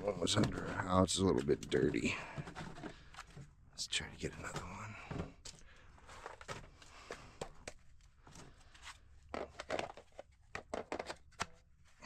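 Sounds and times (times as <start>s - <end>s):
rummaging through objects: 0.0s - 3.5s, 4.2s - 12.0s.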